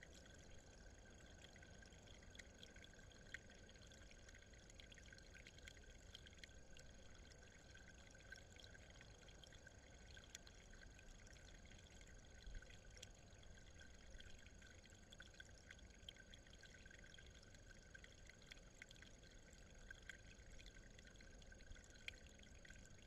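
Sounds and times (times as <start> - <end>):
water trickling over rock: 0.0 - 23.0.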